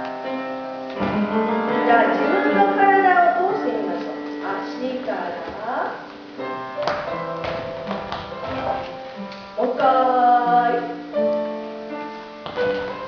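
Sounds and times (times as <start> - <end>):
keyboard or piano tune: 0.0 - 13.0.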